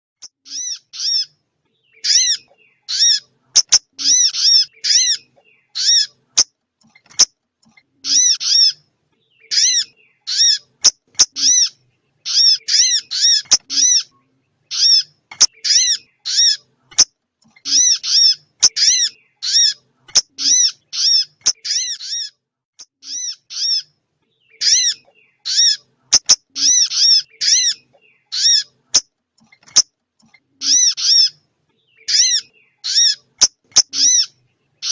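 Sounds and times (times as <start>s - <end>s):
songbird chirps: 0.2s - 34.9s.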